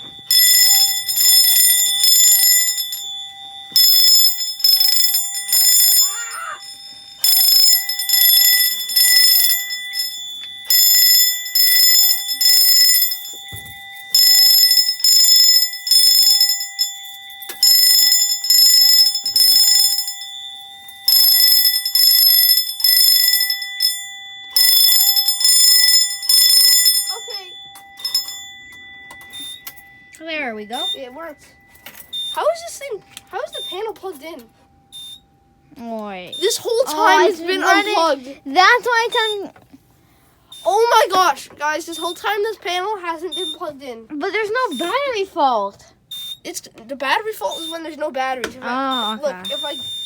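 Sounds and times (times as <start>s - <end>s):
fire alarm bells ringing: 0.0s - 50.0s
steady alarm tone: 0.0s - 50.0s.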